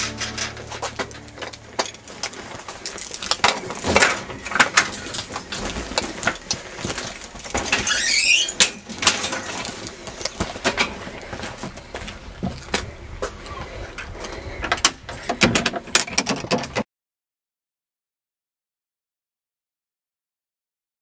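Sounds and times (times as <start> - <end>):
bicycle rattling on rough track: 0.0 - 16.8.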